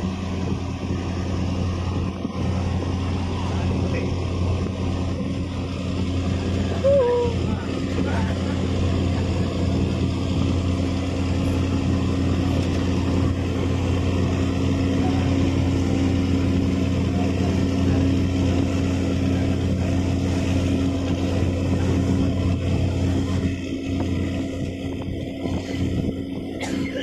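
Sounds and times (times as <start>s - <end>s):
ship diesel engine drone: 0.0s - 27.0s.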